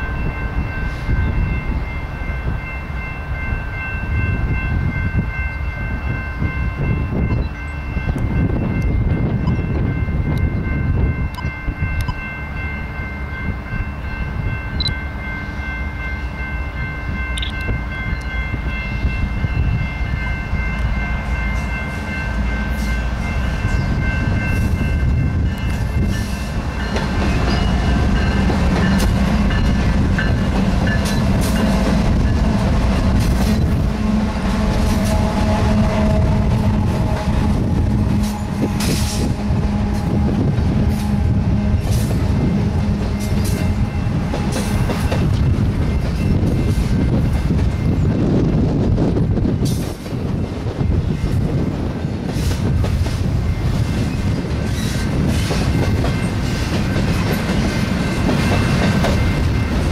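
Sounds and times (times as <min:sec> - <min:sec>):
diesel locomotives rumbling: 0:00.0 - 0:59.9.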